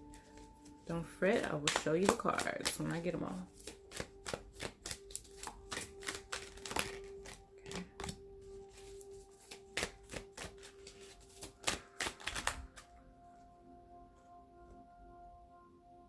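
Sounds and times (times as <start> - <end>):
cards being shuffled: 0.0 - 12.9
soft background music: 0.0 - 16.0.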